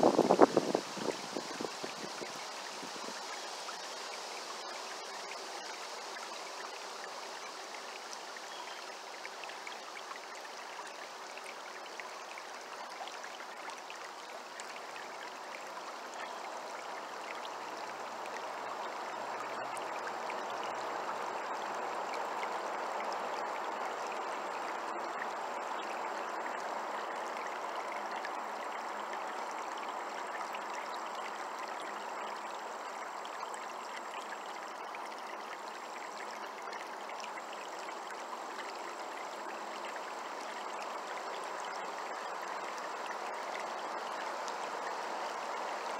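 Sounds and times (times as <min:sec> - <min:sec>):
stream babbling over rocks: 0:00.0 - 0:45.9.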